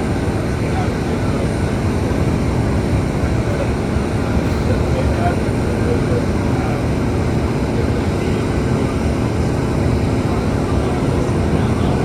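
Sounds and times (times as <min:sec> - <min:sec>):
loud jet engine noise: 0:00.0 - 0:12.0.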